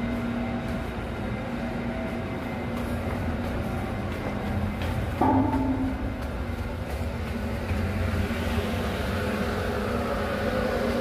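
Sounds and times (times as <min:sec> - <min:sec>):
constant hum: 0:00.0 - 0:11.0
ship machinery drone: 0:00.0 - 0:11.0.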